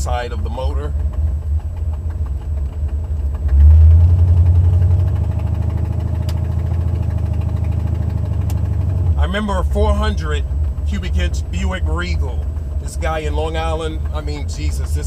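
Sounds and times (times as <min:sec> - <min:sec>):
car engine running: 0:00.0 - 0:15.0
exhaust leak ticking puff: 0:00.0 - 0:15.0.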